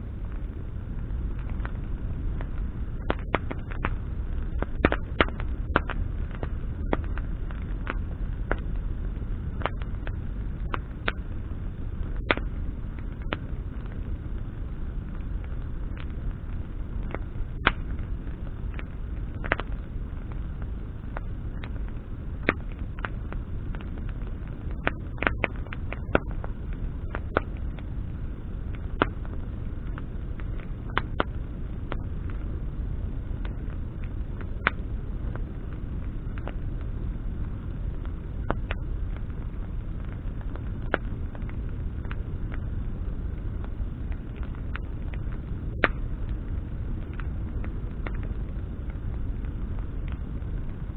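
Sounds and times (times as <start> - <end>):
campfire crackling and popping: 0.0 - 50.9
fire low rumble: 0.0 - 50.9.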